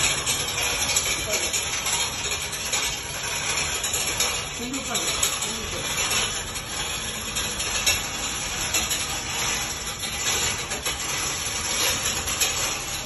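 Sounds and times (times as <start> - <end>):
heavy machine scraping on concrete: 0.0 - 13.0.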